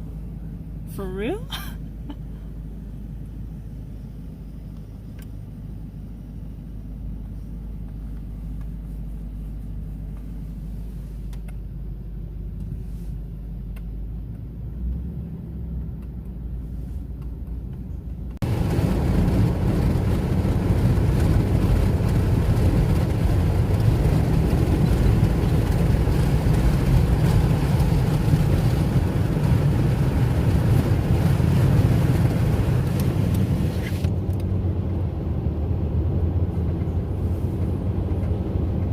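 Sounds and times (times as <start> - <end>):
vehicle interior road rumble: 0.0 - 38.9.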